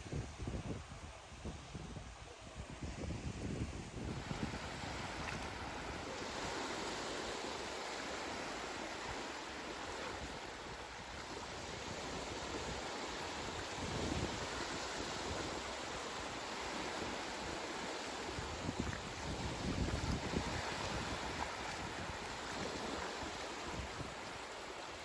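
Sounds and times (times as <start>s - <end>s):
wind buffeting microphone: 0.0s - 24.8s.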